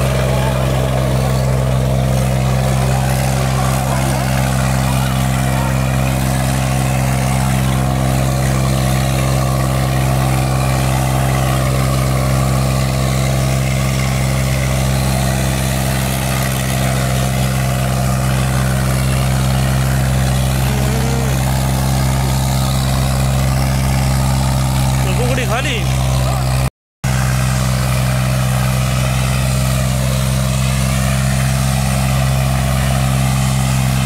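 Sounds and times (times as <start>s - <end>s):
tractor diesel engine running hard: 0.0s - 34.0s.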